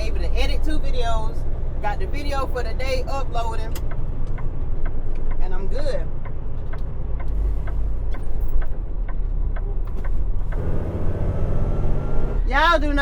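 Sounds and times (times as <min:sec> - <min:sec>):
diesel engine rumble: 0:00.0 - 0:13.0
turn signal ticking: 0:00.0 - 0:13.0.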